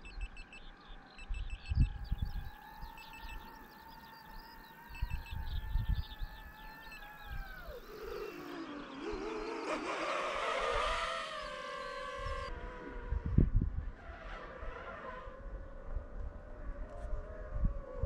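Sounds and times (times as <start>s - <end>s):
wind rumble on microphone: 0.0s - 9.6s, 10.4s - 18.0s
drone propellers whining: 0.0s - 18.0s.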